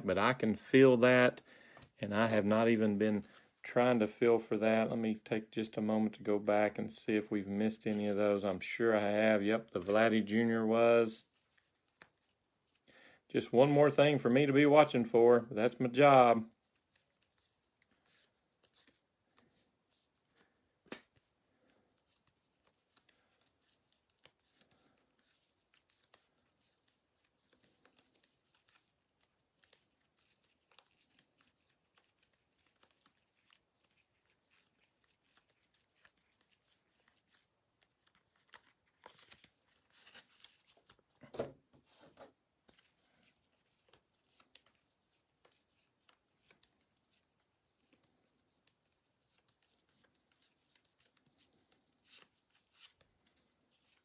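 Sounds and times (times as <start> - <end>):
trading cards rustling and clicking: 5.0 - 12.9, 14.8 - 54.0
card shuffling: 7.2 - 12.8, 16.0 - 54.0.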